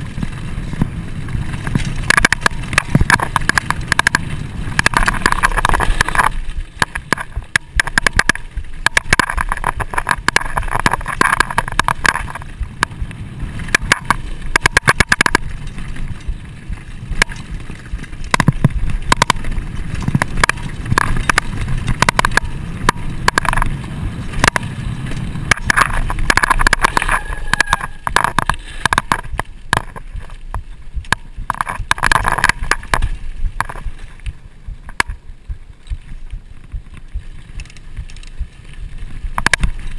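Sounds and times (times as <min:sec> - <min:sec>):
bike clicks and rattles: 0:00.0 - 0:39.9
tyres rumbling on dirt: 0:00.0 - 0:39.9.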